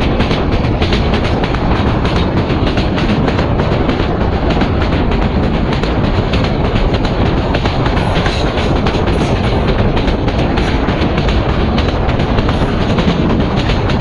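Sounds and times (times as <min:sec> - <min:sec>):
train rumble and air rush: 0:00.0 - 0:14.0
wheels clacking over rails: 0:00.0 - 0:14.0.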